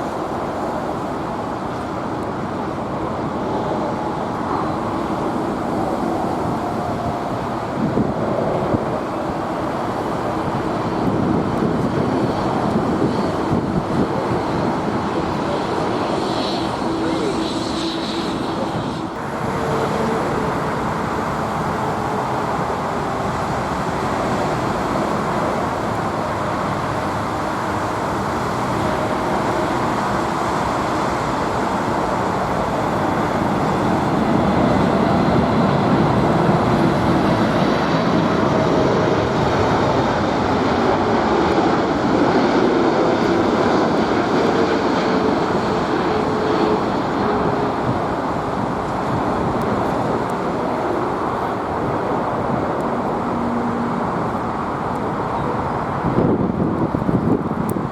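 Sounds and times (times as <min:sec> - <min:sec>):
jet engines rushing: 0:00.0 - 0:57.9.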